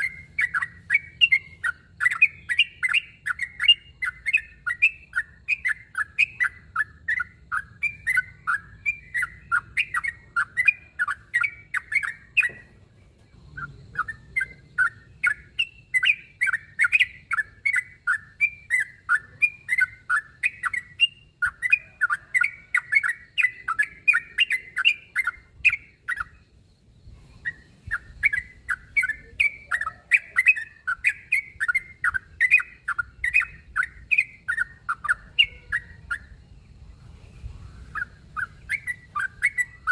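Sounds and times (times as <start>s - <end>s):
bulbul chattering call: 0.0s - 39.9s.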